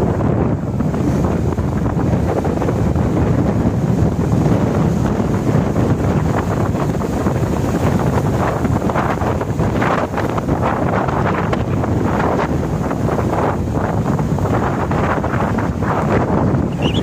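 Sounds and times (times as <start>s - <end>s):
wave crashing on rocks: 0.0s - 17.0s
wind buffeting microphone: 0.0s - 17.0s.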